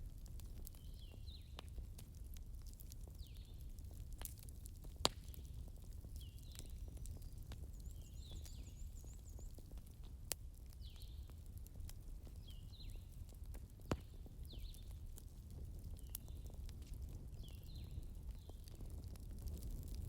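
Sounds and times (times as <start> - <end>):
fire pops: 0.0 - 20.0
wood fire crackling: 0.0 - 20.0.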